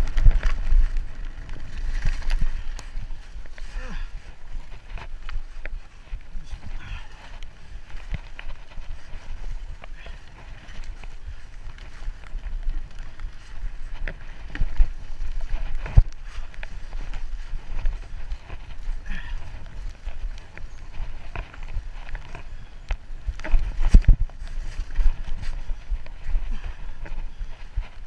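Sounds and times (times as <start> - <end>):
bike rattling and knocking: 0.0 - 28.0
wind and tyres rumbling: 0.0 - 28.0.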